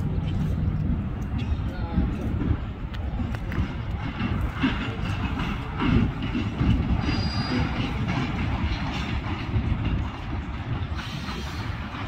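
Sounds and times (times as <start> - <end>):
train low rumble: 0.0 - 12.0
train wheels clicking over rail joints: 0.0 - 12.0.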